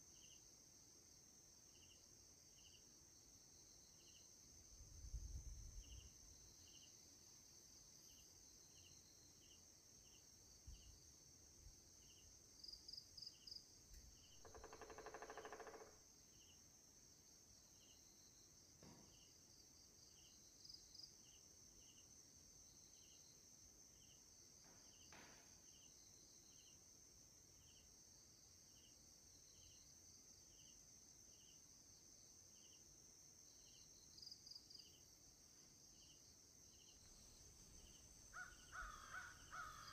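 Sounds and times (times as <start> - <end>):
steady high insect drone: 0.0 - 39.9
insects chirping: 0.1 - 39.9.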